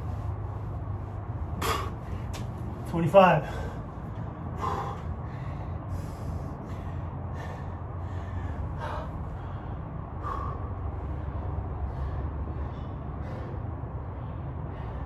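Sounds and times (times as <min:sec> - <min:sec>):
man breathing hard: 0:00.0 - 0:15.0
steady low hum: 0:00.0 - 0:15.0.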